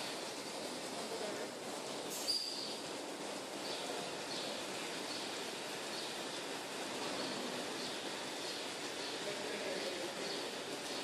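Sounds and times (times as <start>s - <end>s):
milking machine noise: 0.0s - 11.0s.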